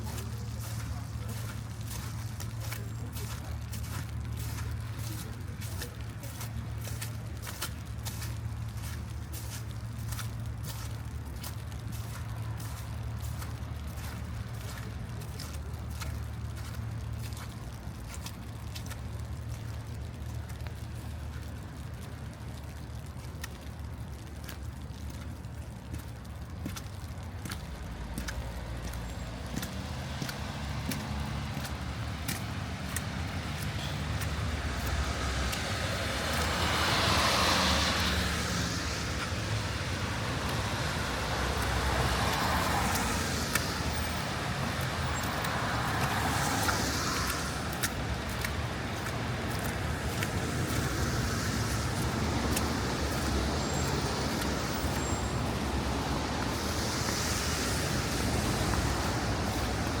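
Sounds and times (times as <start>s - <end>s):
cars passing on wet road: 0.0s - 60.0s
low traffic rumble: 0.0s - 60.0s.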